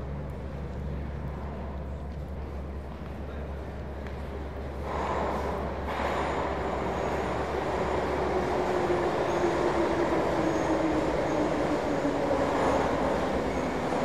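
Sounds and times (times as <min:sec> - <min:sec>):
metro train rumble: 0:00.0 - 0:14.0.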